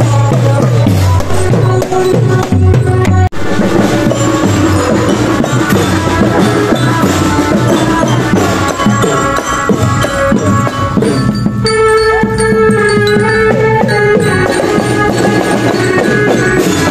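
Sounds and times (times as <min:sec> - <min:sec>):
drums beating: 0:00.0 - 0:16.9
pitched melody: 0:00.0 - 0:16.9.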